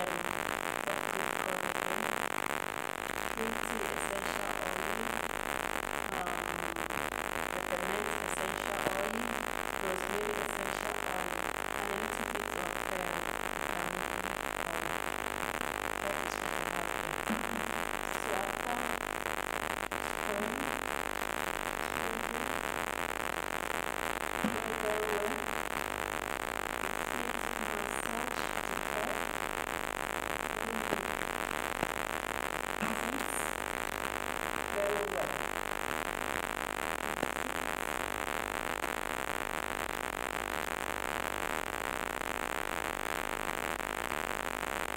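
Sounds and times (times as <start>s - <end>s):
recording hiss: 0.0s - 44.9s.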